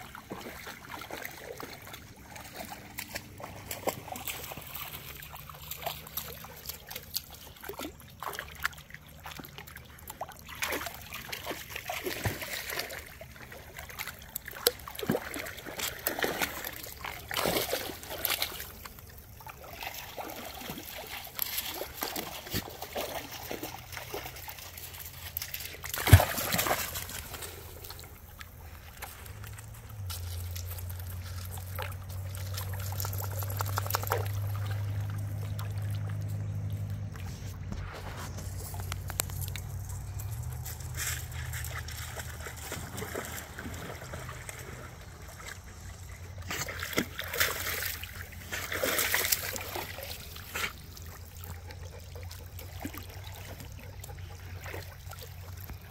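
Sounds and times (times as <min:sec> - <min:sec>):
dogs splashing through water: 0:00.0 - 0:55.9.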